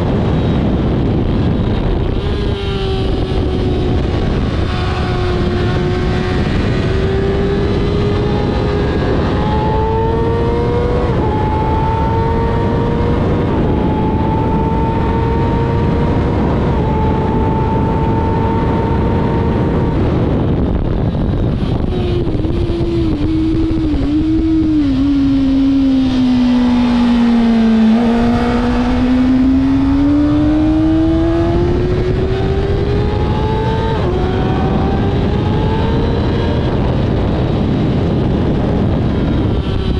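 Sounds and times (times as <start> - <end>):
motorcycle engine at high revs: 0.0 - 39.9
wind rush: 0.0 - 39.9.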